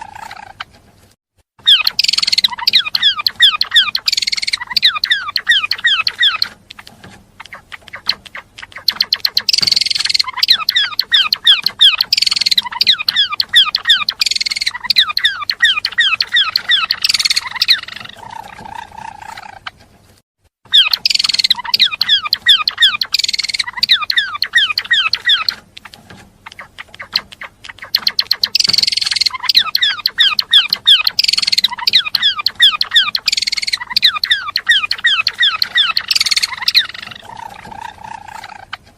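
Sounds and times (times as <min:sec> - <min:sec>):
songbird singing high chirps: 0:01.6 - 0:06.6, 0:07.5 - 0:18.7, 0:20.7 - 0:25.6, 0:26.5 - 0:38.6.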